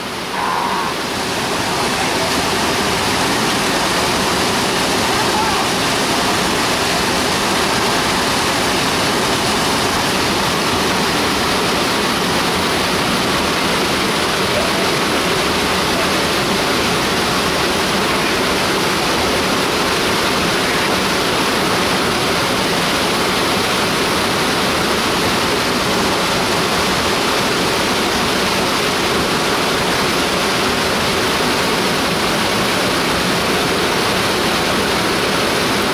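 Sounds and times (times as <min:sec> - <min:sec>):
water rushing over waterfall: 0:00.0 - 0:35.9.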